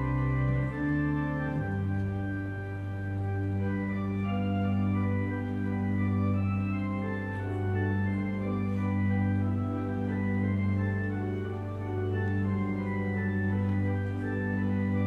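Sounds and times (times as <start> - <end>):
church organ chords: 0.0 - 15.0.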